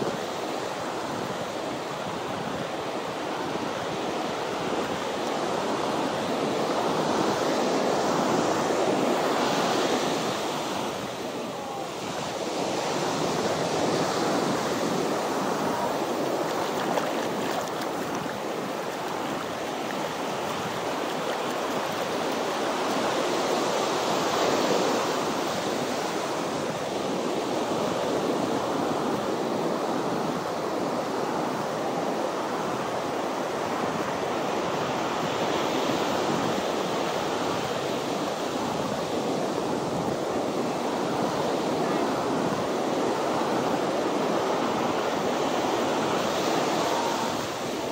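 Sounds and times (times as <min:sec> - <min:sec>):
ocean surf breaking on beach: 0:00.0 - 0:47.9
wind buffeting microphone: 0:00.0 - 0:47.9.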